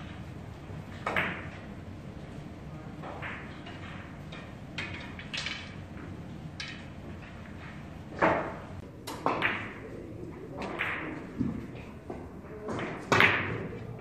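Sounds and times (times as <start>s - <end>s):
billiard balls knocking: 0.0s - 1.7s, 3.0s - 14.0s.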